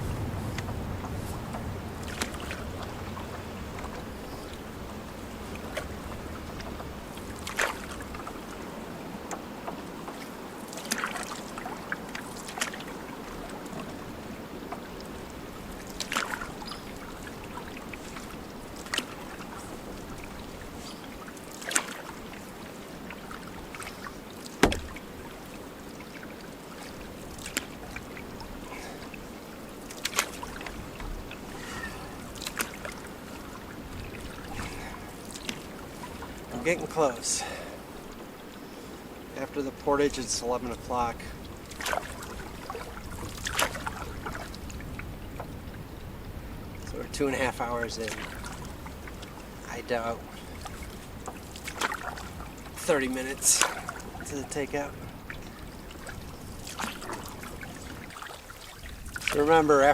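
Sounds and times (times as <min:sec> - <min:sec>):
paddle knocks and splashes: 0:00.0 - 0:59.9
water washing: 0:00.0 - 0:59.9.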